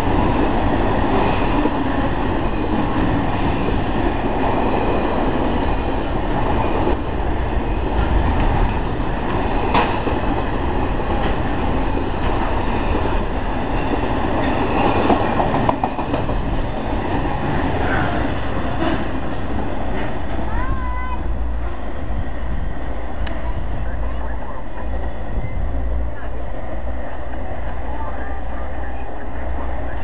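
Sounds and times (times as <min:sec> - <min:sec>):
steel wheels rumbling on rails: 0:00.0 - 0:30.0.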